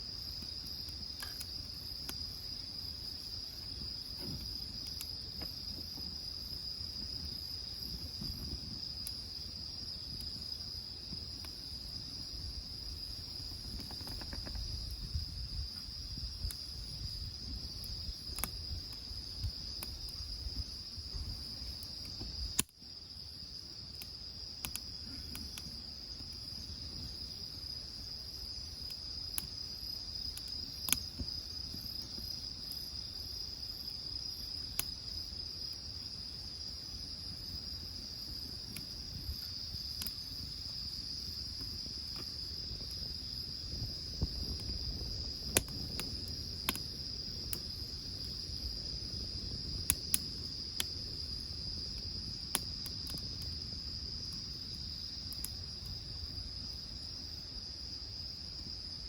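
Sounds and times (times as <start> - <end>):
wood fire crackling and popping: 0.0 - 57.1
insects trilling: 0.0 - 59.0.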